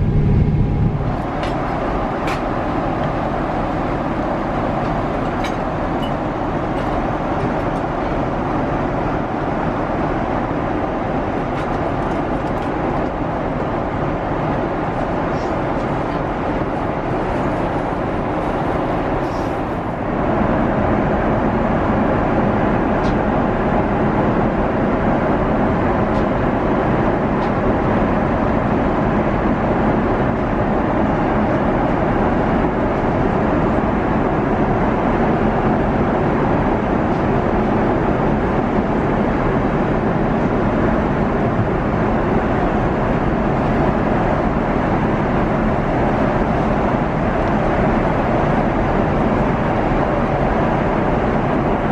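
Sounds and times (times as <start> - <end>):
airplane cabin engine and airflow noise: 0.0 - 51.9.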